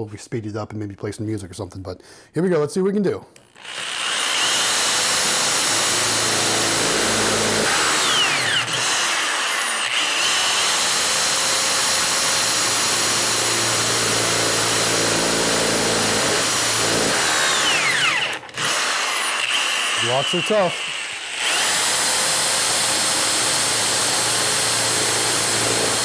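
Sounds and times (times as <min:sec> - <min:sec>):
electric drill boring into metal: 0:03.4 - 0:26.0.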